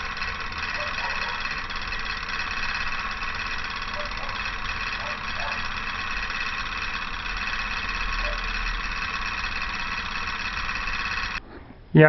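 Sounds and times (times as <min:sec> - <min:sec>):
small engine mechanical whir: 0:00.0 - 0:11.4.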